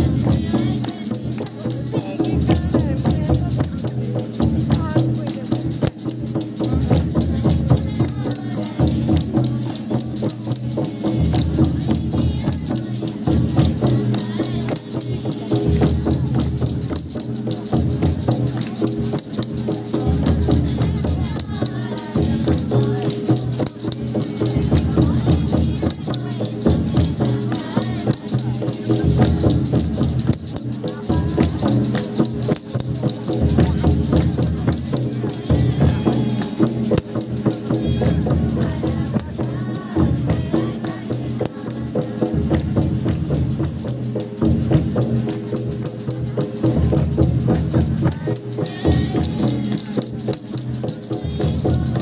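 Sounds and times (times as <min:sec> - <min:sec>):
high jingling percussion: 0:00.0 - 0:52.0.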